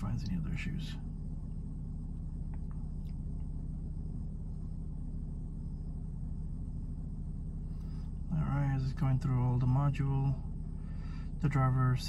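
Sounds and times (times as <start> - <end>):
car cabin hum and rumble: 0.0 - 12.0.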